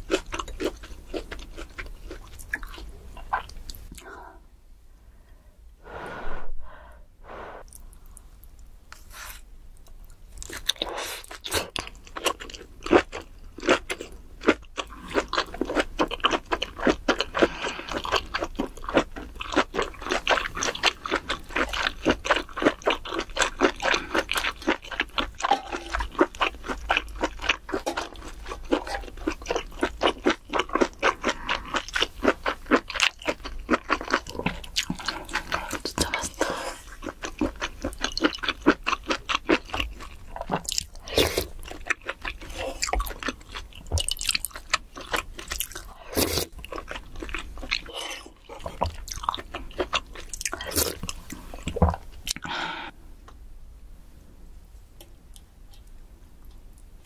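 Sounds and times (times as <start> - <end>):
crunchy wet chewing: 0.0 - 4.1, 7.6 - 52.6.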